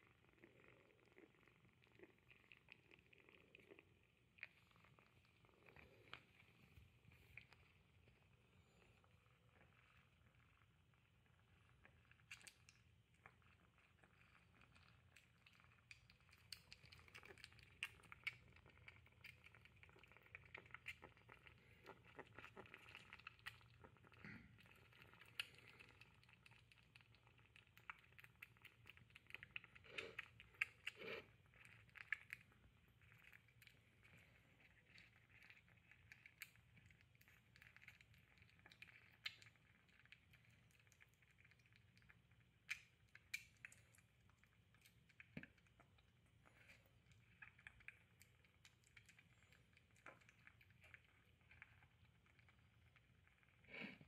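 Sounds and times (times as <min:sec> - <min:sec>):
kitten chewing food: 0:00.0 - 0:54.0.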